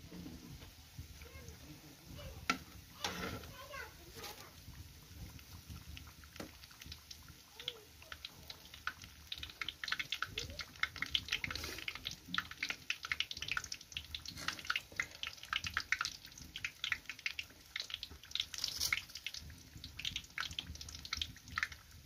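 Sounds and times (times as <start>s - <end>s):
dough deep-frying in oil: 0.0s - 22.0s.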